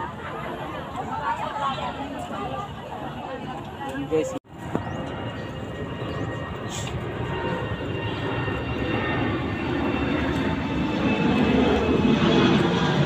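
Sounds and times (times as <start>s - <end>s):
airplane flying over: 0.0s - 13.0s.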